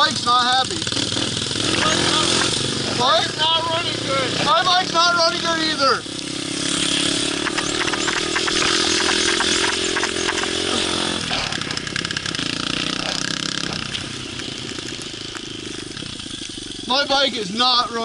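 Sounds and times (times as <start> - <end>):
pit bike engine buzzing: 0.0 - 18.0.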